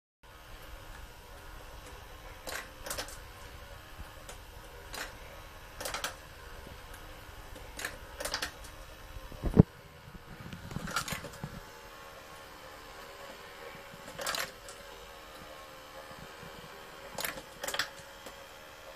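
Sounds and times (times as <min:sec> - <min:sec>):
faint motor hum: 0:00.2 - 0:18.9.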